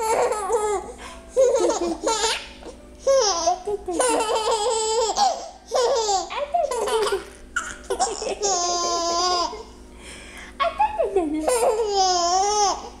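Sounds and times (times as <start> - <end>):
baby laughing: 0.0 - 2.5, 3.1 - 9.7, 10.6 - 12.9.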